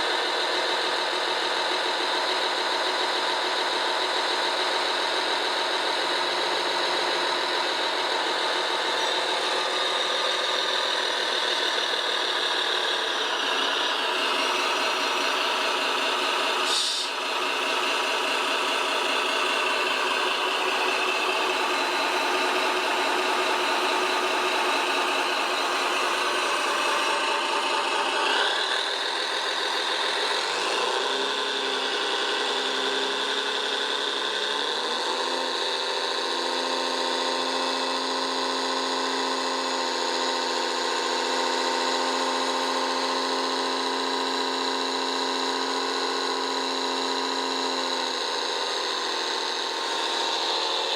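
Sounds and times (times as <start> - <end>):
model machine motor humming: 8.1 - 50.9.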